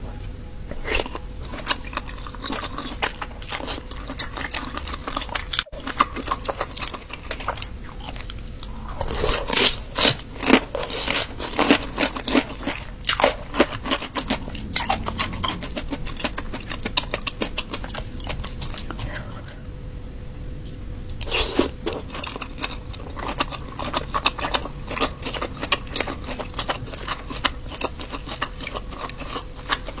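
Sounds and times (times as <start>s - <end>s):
person chewing crunchy food: 0.7s - 19.4s, 21.1s - 30.0s.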